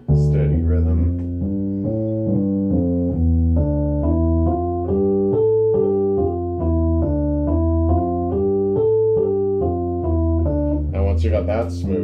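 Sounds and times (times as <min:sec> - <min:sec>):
electric keyboard playing: 0:00.0 - 0:12.0.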